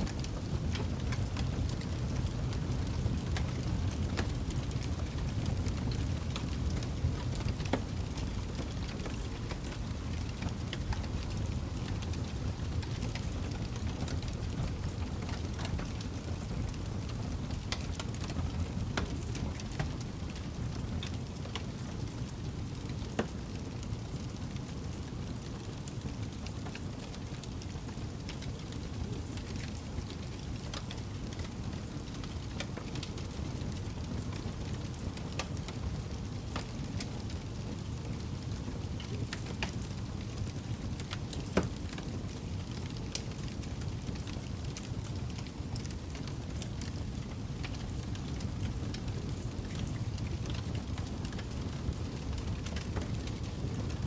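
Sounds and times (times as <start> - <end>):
burning wood crackling: 0.0 - 54.0
flames rumbling: 0.0 - 54.0.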